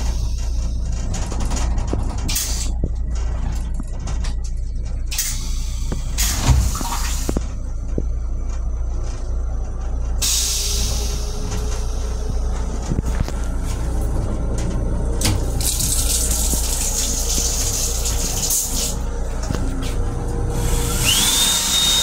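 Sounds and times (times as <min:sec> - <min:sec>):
electric railcar rumbling: 0:00.0 - 0:22.0.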